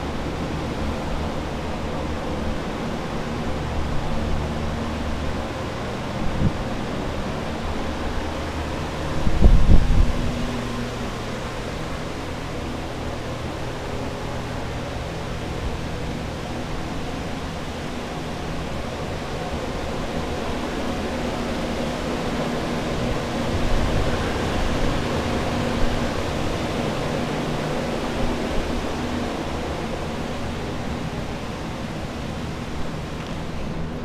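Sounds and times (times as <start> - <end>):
air movers rushing drone: 0.0 - 34.0
low hum: 0.0 - 34.0.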